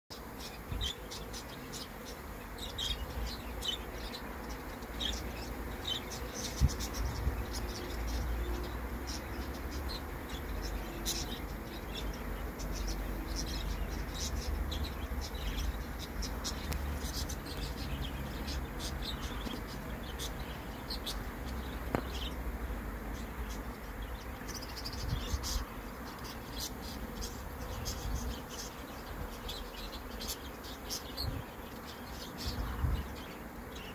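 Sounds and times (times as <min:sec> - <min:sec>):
bees buzzing: 0:00.1 - 0:33.9.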